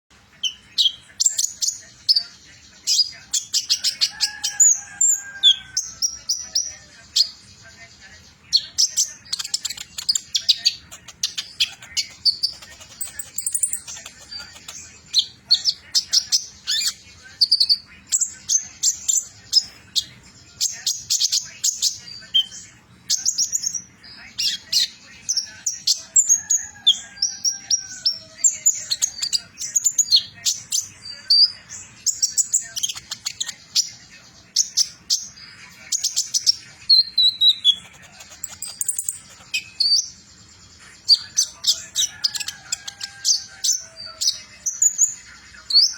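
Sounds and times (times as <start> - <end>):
bird singing chattering song: 0.1 - 45.9.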